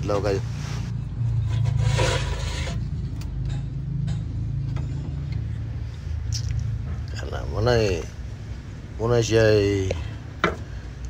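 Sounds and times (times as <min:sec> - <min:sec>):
low engine-like rumble: 0:00.0 - 0:11.0.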